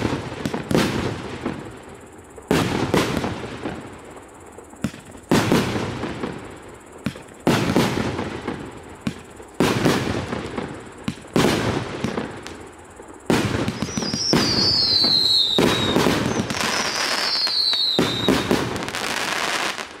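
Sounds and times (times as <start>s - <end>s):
falling firework whistles: 0.0s - 20.0s.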